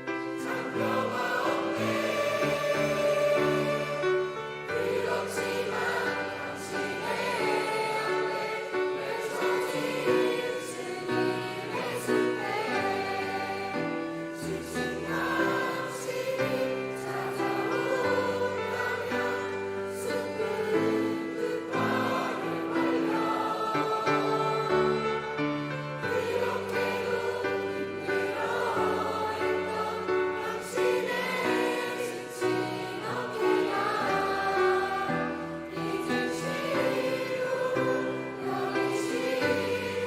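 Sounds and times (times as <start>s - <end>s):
youth choir singing: 0.0s - 40.0s.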